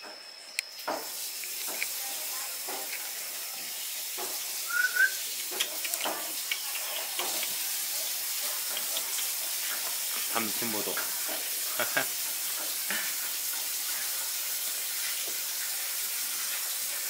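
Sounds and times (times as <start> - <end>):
food sizzling in frying pan: 0.7 - 17.0.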